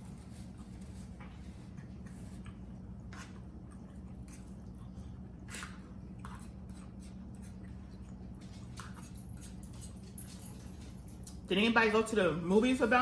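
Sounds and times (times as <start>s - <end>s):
steady low hum: 0.0s - 13.0s
wet chewing and lip-smacking: 0.2s - 11.5s.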